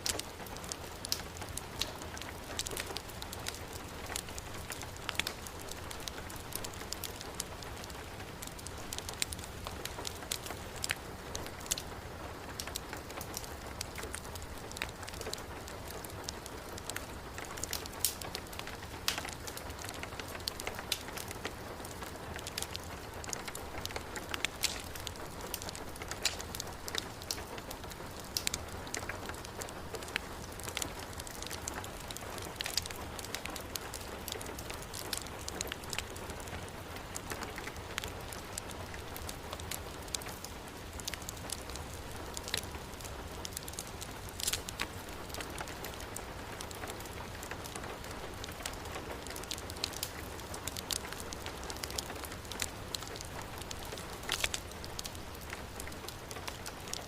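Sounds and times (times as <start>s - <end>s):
heavy rain: 0.0s - 57.0s
wood fire crackling: 0.0s - 57.0s.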